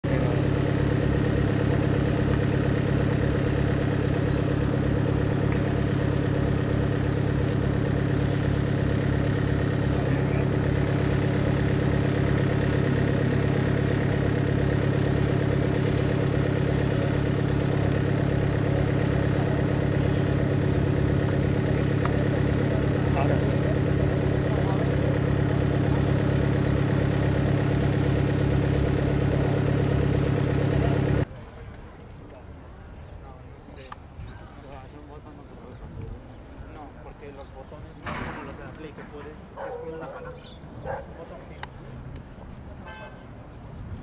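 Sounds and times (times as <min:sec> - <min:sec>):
aircraft engine idling: 0:00.0 - 0:44.0.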